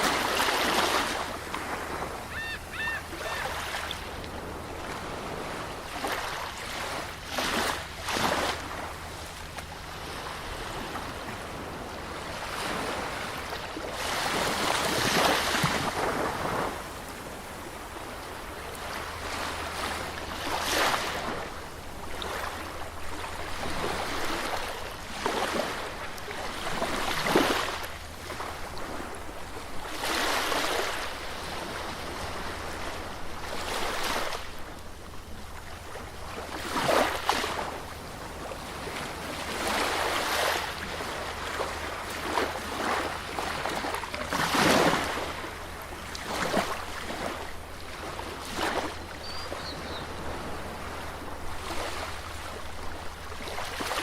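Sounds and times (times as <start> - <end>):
sea waves washing onto beach: 0.0 - 54.0.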